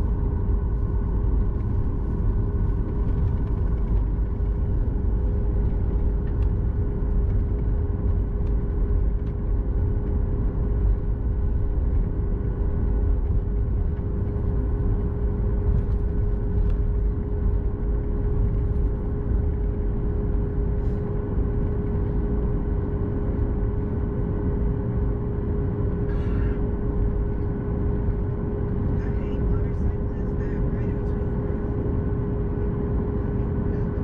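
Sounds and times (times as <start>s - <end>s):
aircraft engines idling: 0.0s - 34.0s
cabin hum: 0.0s - 34.0s.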